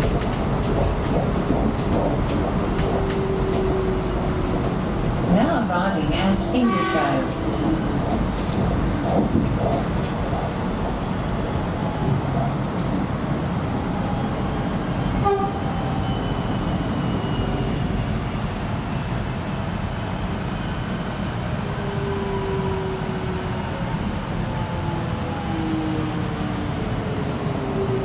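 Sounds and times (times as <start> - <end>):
train passing alongside: 0.0 - 28.0
train wheels rumbling: 0.0 - 28.0.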